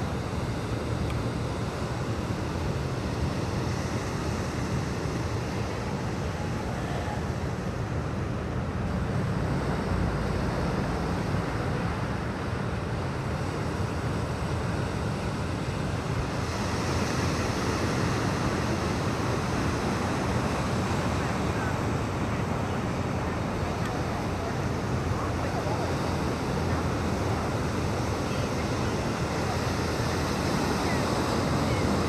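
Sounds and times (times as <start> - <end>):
ocean rumble: 0.0 - 32.0
wind: 0.0 - 32.0.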